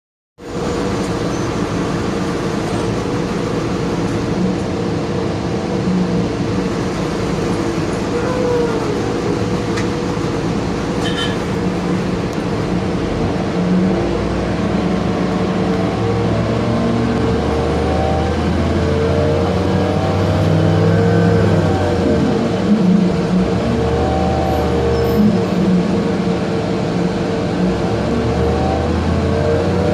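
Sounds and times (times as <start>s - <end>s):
bus engine rumble: 0.4s - 29.9s.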